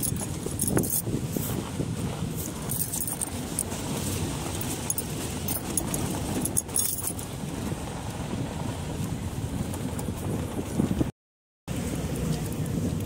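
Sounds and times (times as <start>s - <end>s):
vehicle rattling and clinking: 0.0s - 11.1s
low engine and road rumble: 0.0s - 13.0s.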